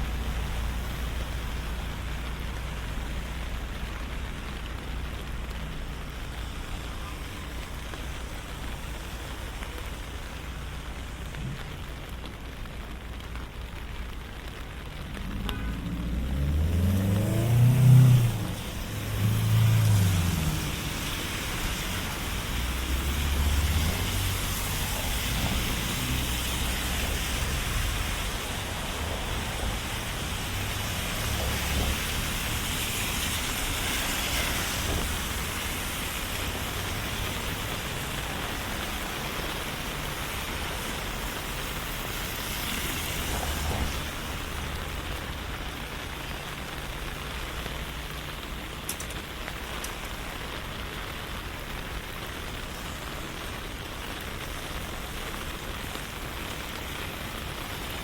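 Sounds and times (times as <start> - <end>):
steady rain falling: 0.0 - 58.0
traffic rumbling: 0.0 - 58.0.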